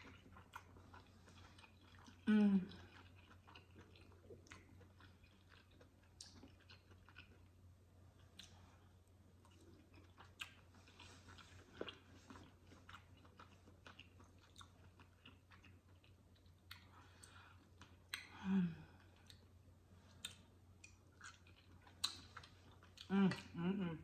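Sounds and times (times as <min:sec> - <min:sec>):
close chewing: 0:00.0 - 0:07.5, 0:08.2 - 0:18.3, 0:20.2 - 0:23.6.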